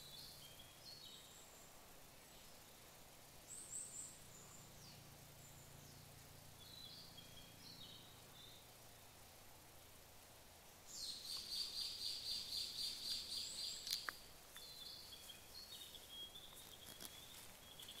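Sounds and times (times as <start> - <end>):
bird chirping: 0.0 - 8.8, 10.9 - 18.0.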